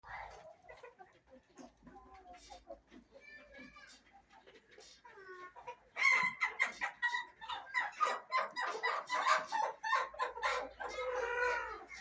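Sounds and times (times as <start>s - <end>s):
chickens clucking: 0.1s - 12.0s.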